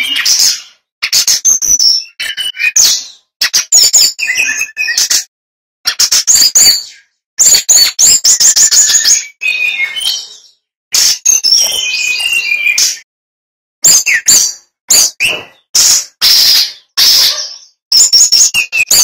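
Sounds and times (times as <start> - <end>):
bird singing chirps and whistles: 0.0 - 5.3, 5.9 - 13.1, 13.8 - 19.0.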